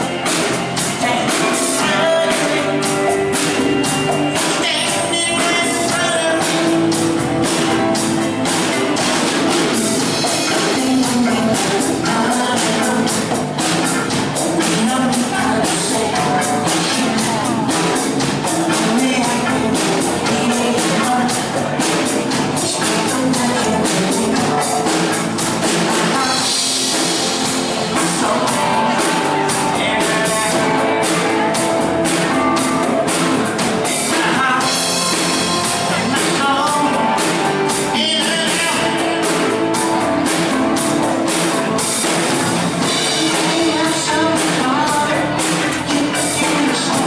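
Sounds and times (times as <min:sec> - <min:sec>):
drums and guitar: 0:00.0 - 0:47.0
person singing: 0:00.0 - 0:47.0.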